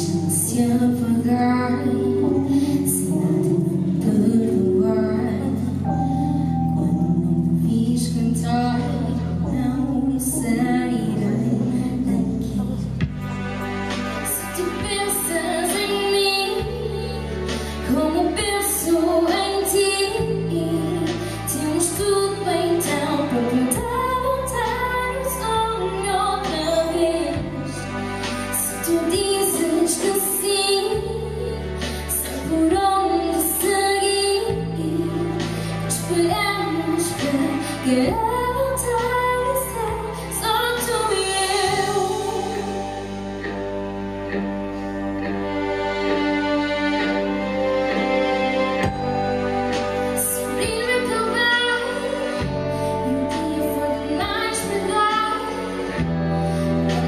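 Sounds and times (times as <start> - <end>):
woman singing into a microphone: 0.0 - 13.1, 14.3 - 43.2, 50.1 - 57.0.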